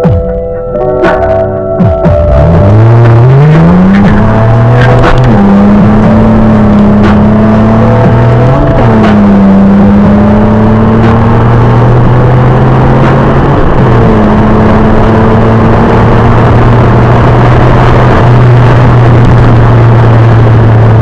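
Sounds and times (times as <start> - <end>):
car engine running: 0.0 - 21.0
tyre and road noise: 0.0 - 21.0.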